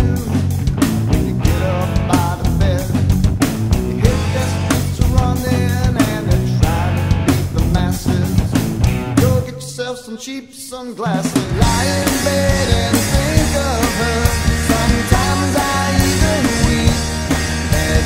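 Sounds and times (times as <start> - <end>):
person singing: 0.0 - 0.5, 1.2 - 3.1, 4.0 - 18.0
rock band playing: 0.0 - 9.6, 11.0 - 18.0.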